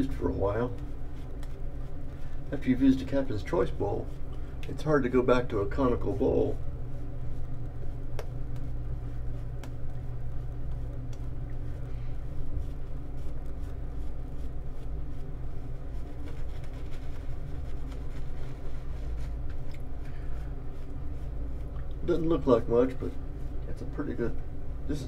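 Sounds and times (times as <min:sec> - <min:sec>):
low hum: 0:00.0 - 0:25.0
shaving brush swishing lather: 0:00.0 - 0:25.0.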